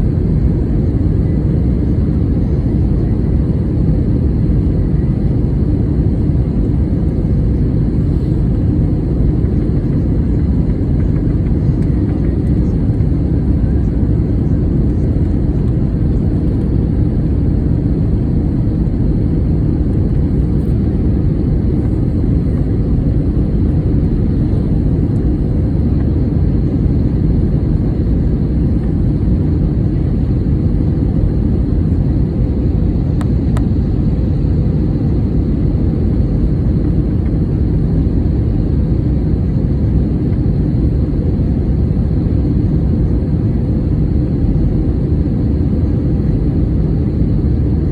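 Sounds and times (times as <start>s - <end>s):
airliner cabin engine rumble: 0.0s - 47.9s.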